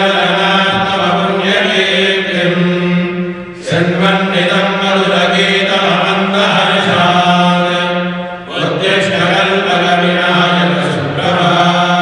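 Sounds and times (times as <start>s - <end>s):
voices chanting: 0.0s - 12.0s.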